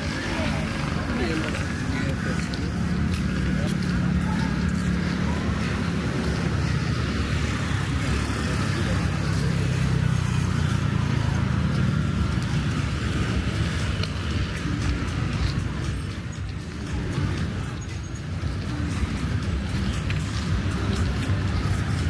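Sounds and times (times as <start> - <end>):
vehicle engines passing: 0.0 - 22.0.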